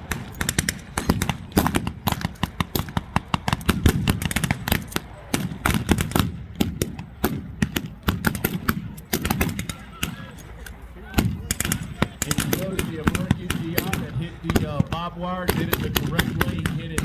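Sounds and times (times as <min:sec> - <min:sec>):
automatic gunfire: 0:00.0 - 0:10.4, 0:11.2 - 0:17.0
blank gunshots: 0:00.0 - 0:17.0.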